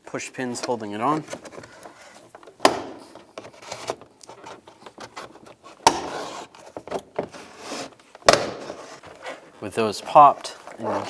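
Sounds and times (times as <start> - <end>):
trim tool scraping plastic: 0.4 - 11.0.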